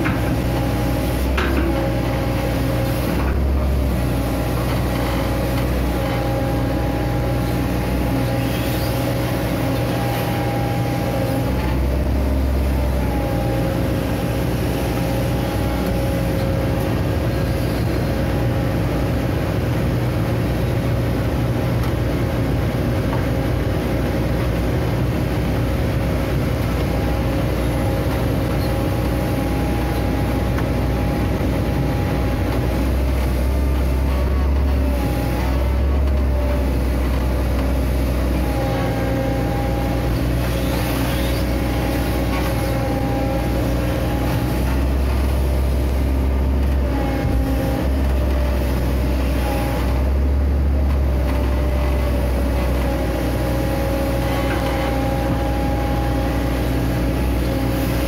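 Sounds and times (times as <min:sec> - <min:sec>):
excavator diesel engine under load: 0:00.0 - 0:58.0.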